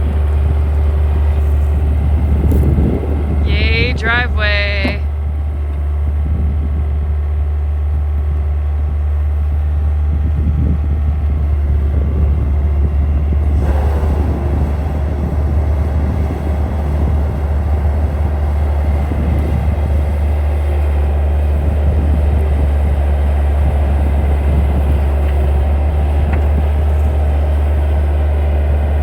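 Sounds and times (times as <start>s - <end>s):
skid steer engine droning: 0.0s - 3.9s, 4.5s - 29.0s.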